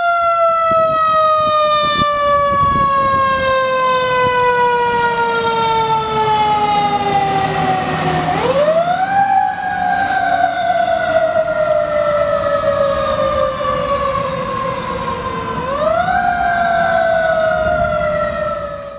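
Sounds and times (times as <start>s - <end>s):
fire truck siren wailing: 0.0s - 18.9s.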